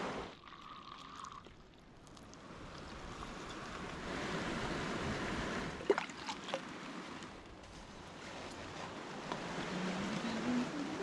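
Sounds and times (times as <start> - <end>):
rushing outdoor noise: 0.0 - 0.4, 2.0 - 11.0.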